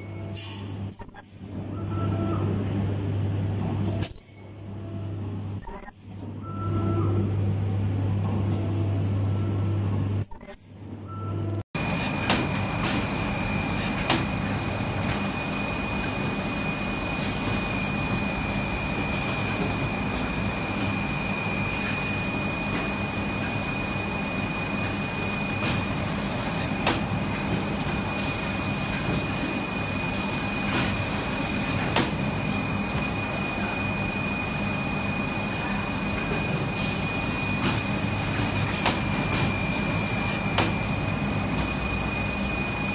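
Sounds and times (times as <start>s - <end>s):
high-pitched machine whine: 3.8s - 42.9s.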